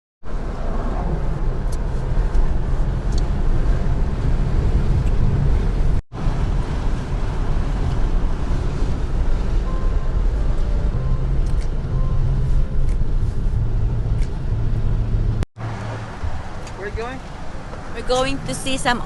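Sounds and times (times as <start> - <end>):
car interior road and engine noise: 0.2 - 19.0.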